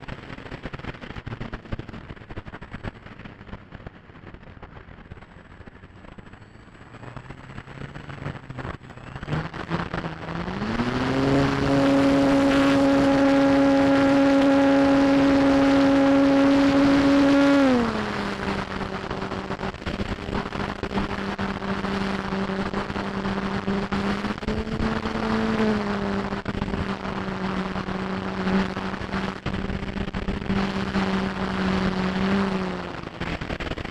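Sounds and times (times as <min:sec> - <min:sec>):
model airplane motor and propeller: 0:00.0 - 0:33.9
wind noise on microphone: 0:00.0 - 0:33.9.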